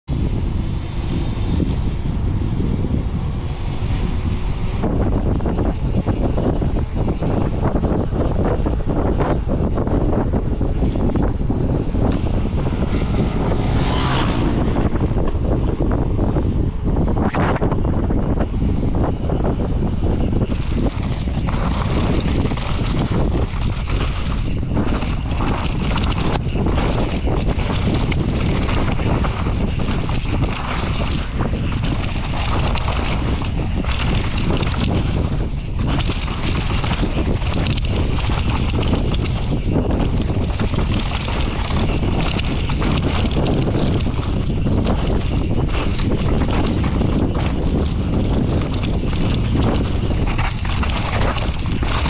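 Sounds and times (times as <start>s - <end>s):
bike rattling and clattering: 0.0s - 52.0s
wind rushing on microphone: 0.0s - 52.0s.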